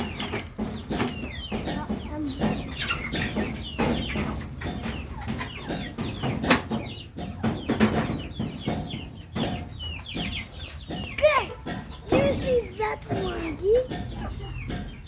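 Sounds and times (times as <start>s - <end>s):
chickens clucking: 0.0s - 15.0s
sharp knocks: 0.2s - 15.0s.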